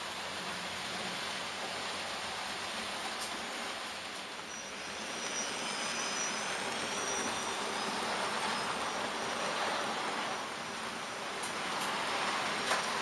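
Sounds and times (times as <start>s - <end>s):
model train wheels on rail: 0.0s - 13.0s.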